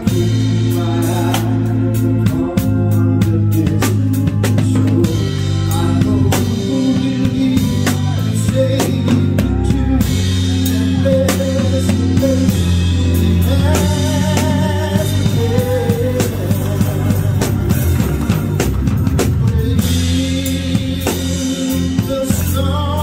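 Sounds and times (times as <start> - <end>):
gospel band playing: 0.0 - 23.0
man singing: 0.0 - 23.0.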